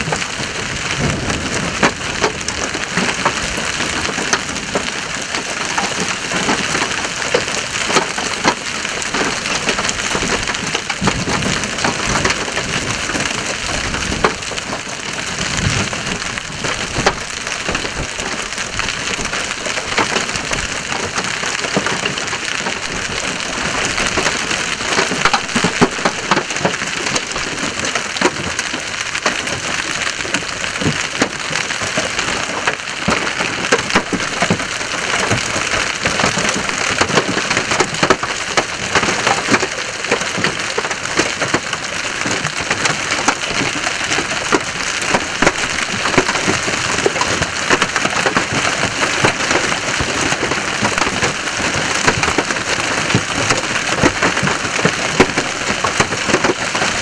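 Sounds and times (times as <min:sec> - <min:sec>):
hailstones clattering on road and cars: 0:00.0 - 0:57.0.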